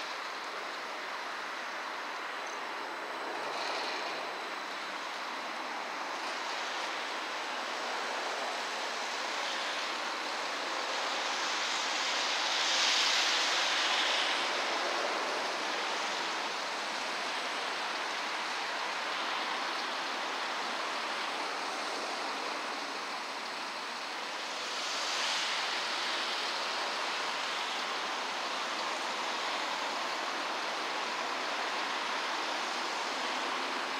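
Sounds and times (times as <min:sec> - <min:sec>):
steady rushing outdoor noise: 0:00.0 - 0:33.9.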